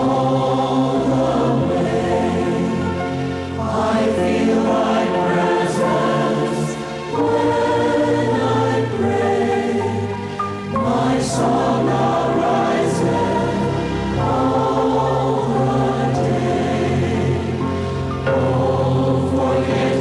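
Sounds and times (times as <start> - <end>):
group singing a hymn: 0.0 - 20.0
sustained accompaniment: 0.0 - 20.0.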